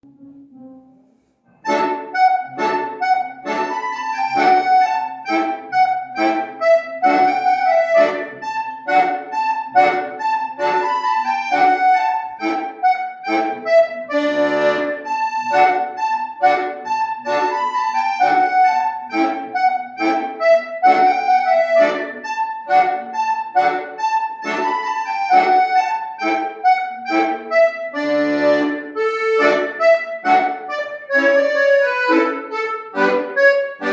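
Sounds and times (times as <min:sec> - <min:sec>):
accordion dance music: 0:01.6 - 0:33.9.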